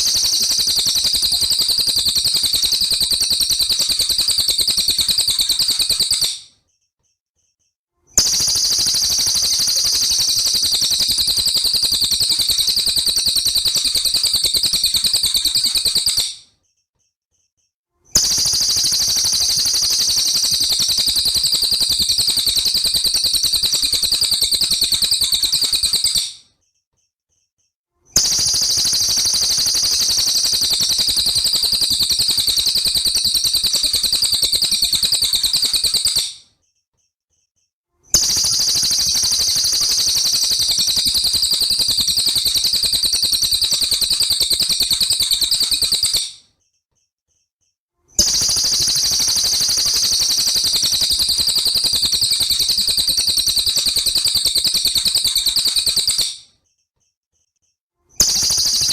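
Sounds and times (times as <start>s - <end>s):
songbird rattling trill: 0.0s - 6.4s, 8.2s - 16.4s, 18.2s - 26.4s, 28.2s - 36.4s, 38.2s - 46.3s, 48.2s - 56.4s, 58.2s - 58.9s.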